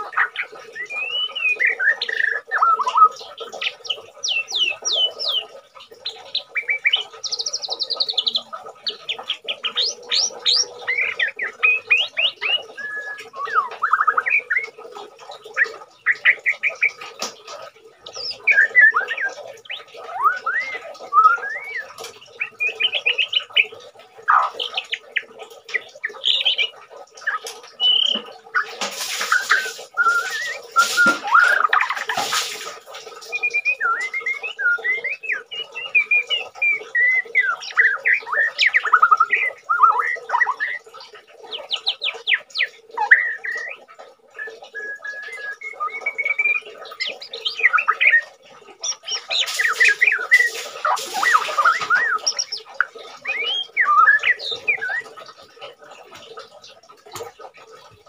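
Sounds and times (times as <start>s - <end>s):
bird singing whistled phrases: 0.0s - 14.8s, 18.1s - 23.7s, 26.0s - 28.7s, 29.3s - 32.0s, 33.3s - 40.9s, 41.5s - 55.2s.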